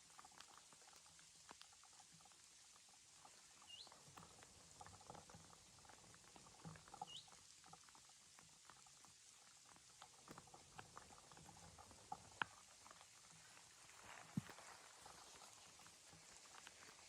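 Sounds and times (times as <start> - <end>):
faint crackles and ticks: 0.0 - 17.0.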